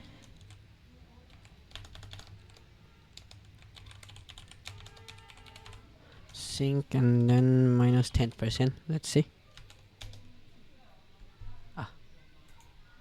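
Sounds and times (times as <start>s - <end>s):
faint steady multi-tone hum: 0.0s - 13.0s.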